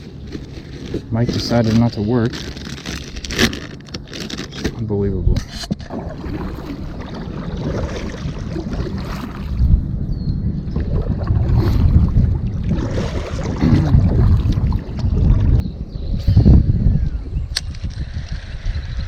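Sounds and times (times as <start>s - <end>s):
water gurgling around hull: 0.0s - 15.6s
wind rumble on microphone: 0.0s - 19.0s.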